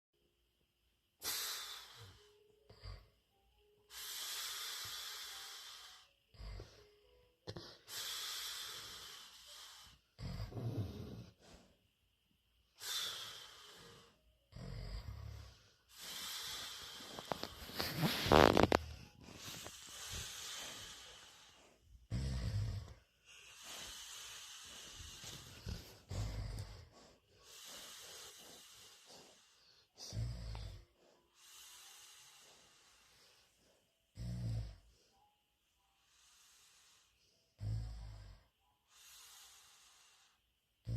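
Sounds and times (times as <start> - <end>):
dog snoring: 1.2 - 3.4, 4.0 - 11.8, 12.8 - 40.9.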